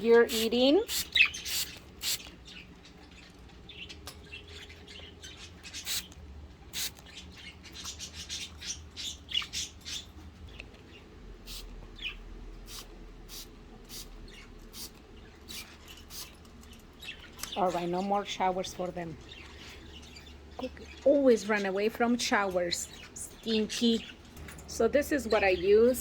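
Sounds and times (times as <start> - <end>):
budgerigars chirping and chattering: 0.0 - 6.2, 7.0 - 12.2, 13.9 - 24.2.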